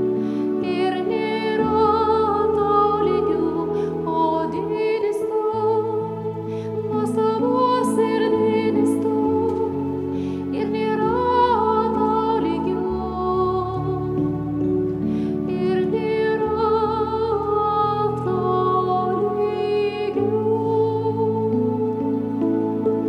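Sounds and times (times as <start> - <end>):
electronic keyboard chords: 0.0 - 23.0
woman singing a hymn: 0.6 - 14.4, 15.5 - 23.0.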